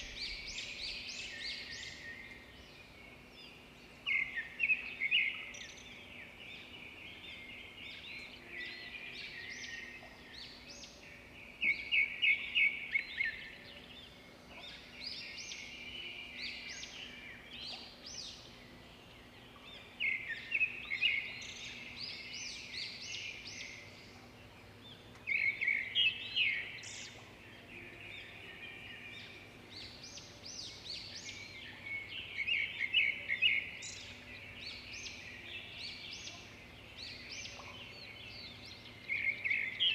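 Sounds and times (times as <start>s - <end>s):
birds singing rapid chirps: 0.0s - 39.9s.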